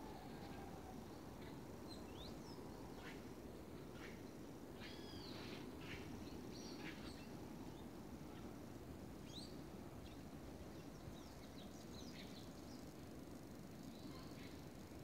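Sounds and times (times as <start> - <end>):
forest birds chirping: 0.0 - 15.0.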